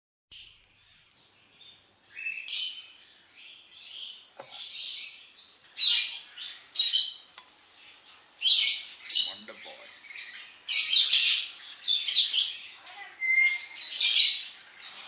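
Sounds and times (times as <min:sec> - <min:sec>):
bird chirping and squawking: 0:00.8 - 0:15.0.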